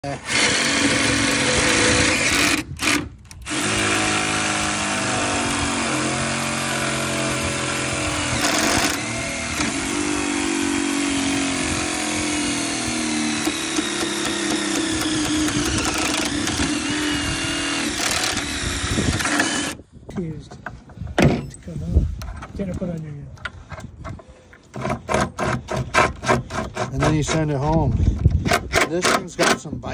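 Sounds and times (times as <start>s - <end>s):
drill boring through wooden post: 0.0s - 19.8s, 24.6s - 29.7s.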